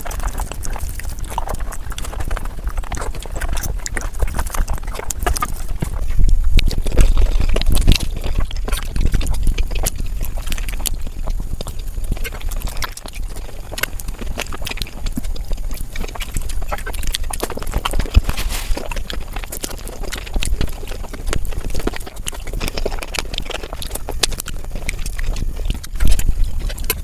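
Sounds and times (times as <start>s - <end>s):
chewing and lip-smacking: 0.0s - 27.0s.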